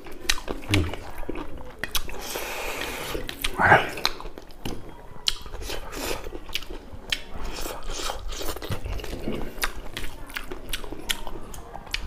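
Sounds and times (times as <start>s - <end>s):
man chewing and lip-smacking: 0.0s - 12.0s.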